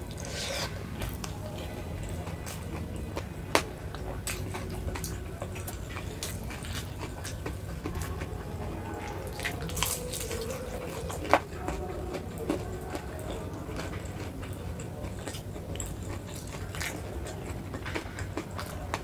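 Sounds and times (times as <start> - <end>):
wet chewing: 0.0 - 19.0.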